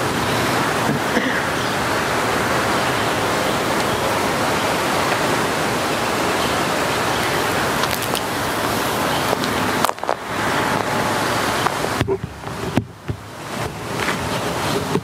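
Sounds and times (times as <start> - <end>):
wind noise hiss: 0.0 - 15.0.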